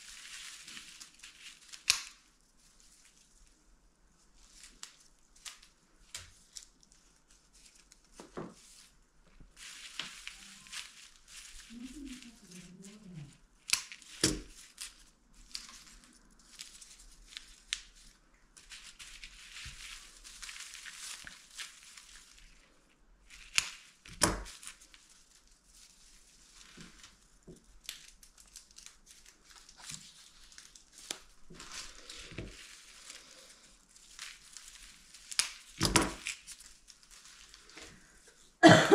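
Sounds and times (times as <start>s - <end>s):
wrapping material crinkling: 0.0s - 38.7s.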